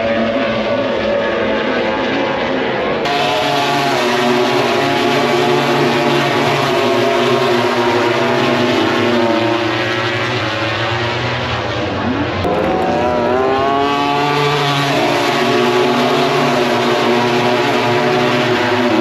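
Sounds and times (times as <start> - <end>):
racing motorcycles at high revs: 3.0 - 19.0.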